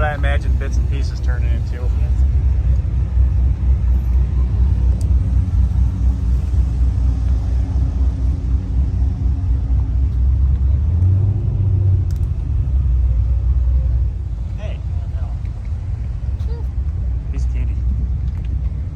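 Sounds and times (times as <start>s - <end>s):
car engine and road rumble: 0.0s - 18.9s.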